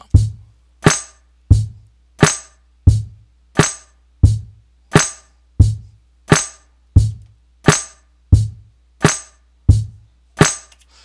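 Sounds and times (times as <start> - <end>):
boom-bap drum loop: 0.0 - 10.8.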